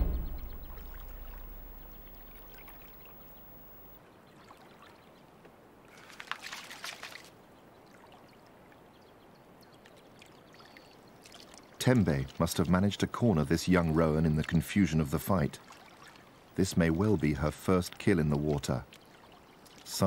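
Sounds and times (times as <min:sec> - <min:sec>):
water splashing and sloshing: 0:00.0 - 0:08.9, 0:09.6 - 0:20.0.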